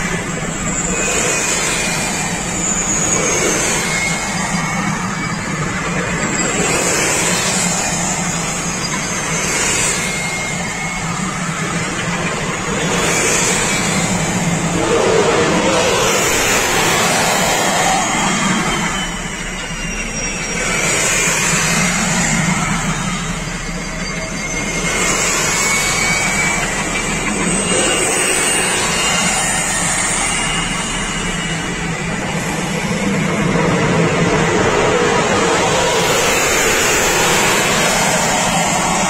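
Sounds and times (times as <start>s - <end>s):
tracked armoured vehicles driving past: 0.0s - 39.0s.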